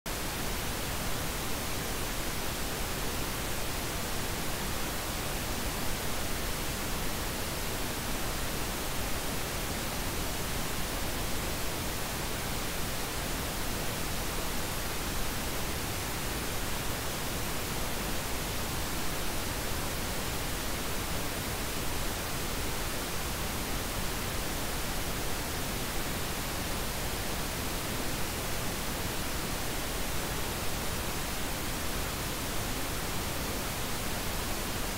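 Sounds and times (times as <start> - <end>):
steady noise hiss: 0.1 - 34.9.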